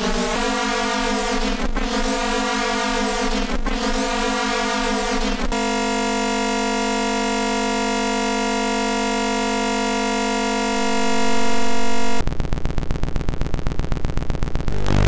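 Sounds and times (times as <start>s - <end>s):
buzzy electronic drone: 0.0s - 12.2s, 14.7s - 15.0s.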